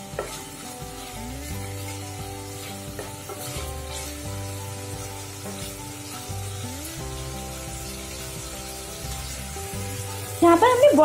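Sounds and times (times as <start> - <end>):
background music with bass: 0.0 - 11.0
food frying in a pan: 0.0 - 11.0.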